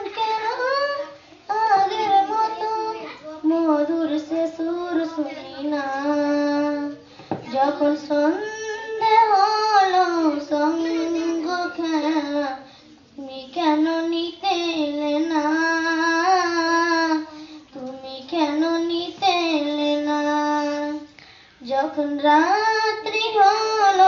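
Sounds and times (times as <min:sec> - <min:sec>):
girl singing unaccompanied: 0:00.0 - 0:24.0.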